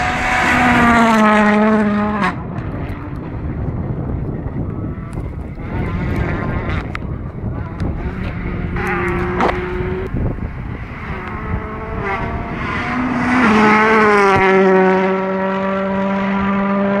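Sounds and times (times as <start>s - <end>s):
rally car engine at high revs: 0.0s - 3.1s, 5.5s - 17.0s.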